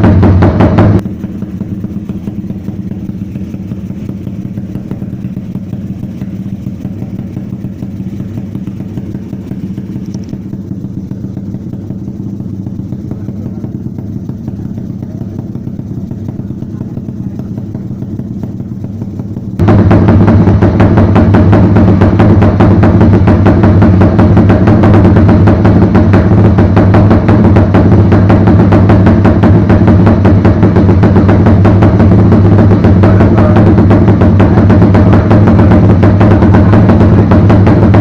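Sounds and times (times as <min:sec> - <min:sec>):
motorcycle engine running steadily: 0:00.0 - 0:38.0.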